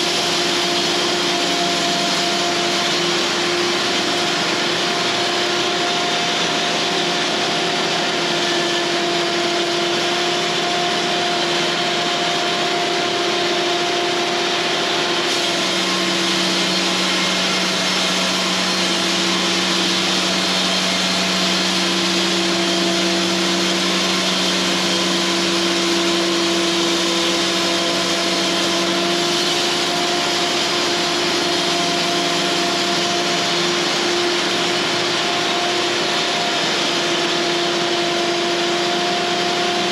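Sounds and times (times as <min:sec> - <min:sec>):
bandsaw sawmill humming and whining: 0:00.0 - 0:39.9.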